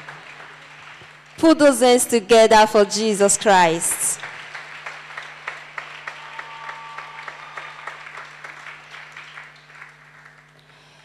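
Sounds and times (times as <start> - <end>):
crowd applauding: 0.0 - 1.8, 3.8 - 11.0.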